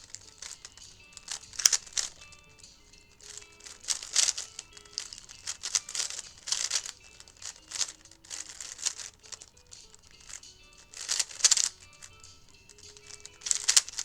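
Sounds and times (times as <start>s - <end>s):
puzzle cube plastic clicking: 0.0s - 14.0s.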